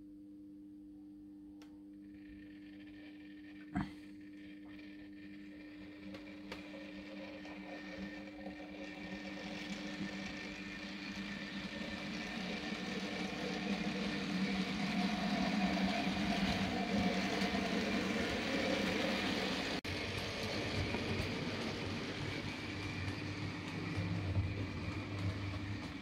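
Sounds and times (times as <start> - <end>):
low hum: 0.0 - 26.0
wheels on rails: 2.0 - 26.0
model train motor whirring: 2.1 - 26.0.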